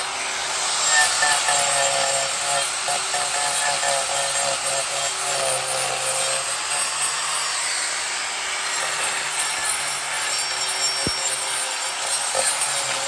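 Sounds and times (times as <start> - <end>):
angle grinder grinding wood: 0.0 - 13.0.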